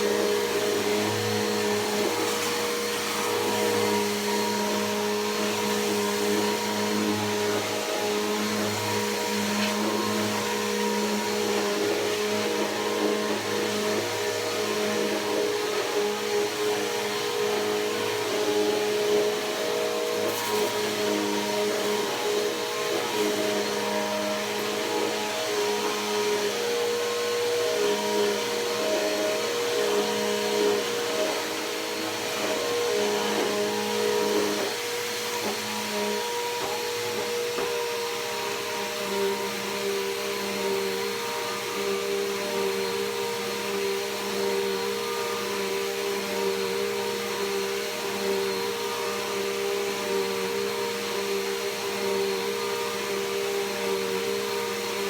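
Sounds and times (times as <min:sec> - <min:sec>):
upright vacuum cleaner running: 0:00.0 - 0:55.0.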